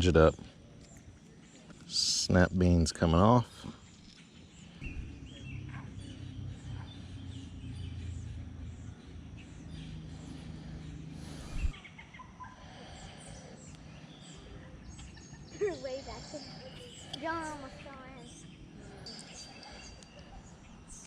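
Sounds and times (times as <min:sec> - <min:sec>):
low rumble of outdoor noise: 0:00.0 - 0:21.0
small birds chirping: 0:00.0 - 0:21.0.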